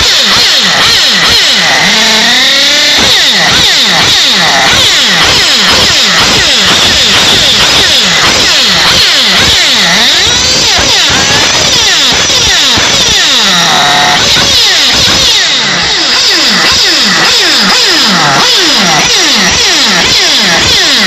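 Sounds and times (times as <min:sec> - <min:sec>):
model car engine revving: 0:00.0 - 0:21.0.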